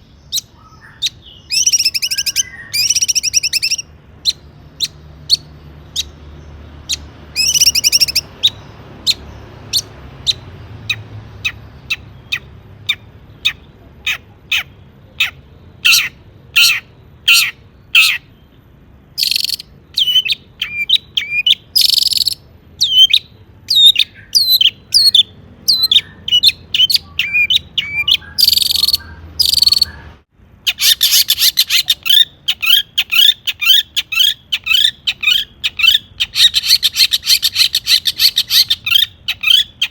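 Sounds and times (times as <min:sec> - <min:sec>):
shrike singing rapid chatter: 0:00.3 - 0:06.2, 0:06.8 - 0:18.2, 0:23.7 - 0:39.9.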